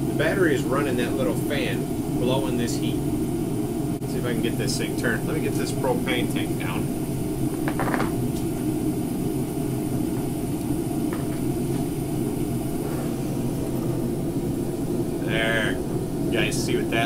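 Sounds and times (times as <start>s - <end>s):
burner flame rumble: 0.0s - 17.0s
heater fan blowing: 0.0s - 17.0s.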